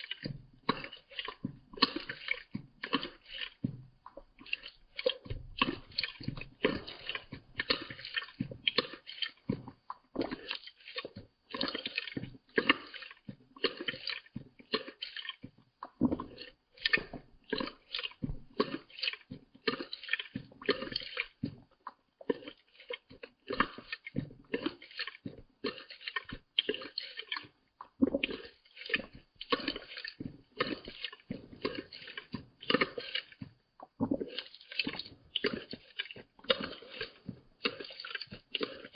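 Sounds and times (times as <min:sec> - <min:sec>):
cat lapping water: 0:00.0 - 0:38.9.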